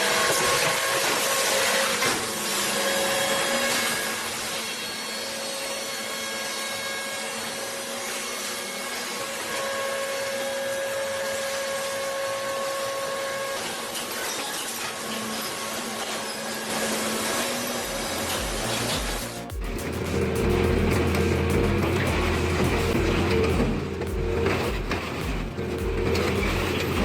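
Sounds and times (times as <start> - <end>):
industrial machinery whining: 0.0 - 27.0.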